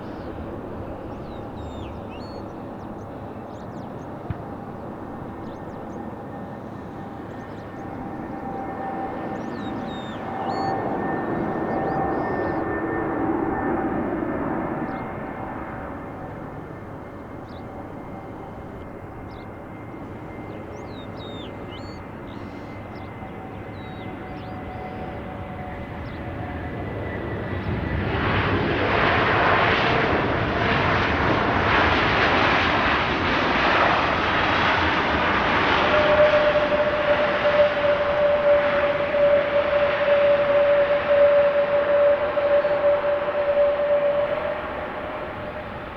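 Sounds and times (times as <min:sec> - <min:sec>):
aircraft roar: 0:00.0 - 0:45.9
airplane engines whining: 0:00.0 - 0:45.9.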